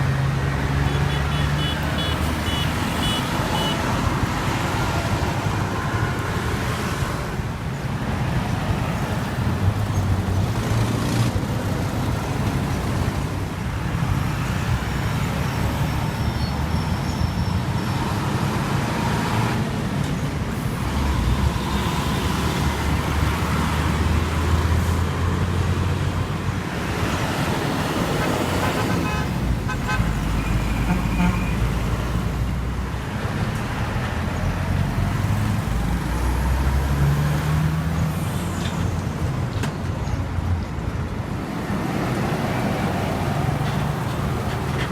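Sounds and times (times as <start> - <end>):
heavy truck engines rumbling: 0.0 - 44.9
street traffic: 0.0 - 44.9.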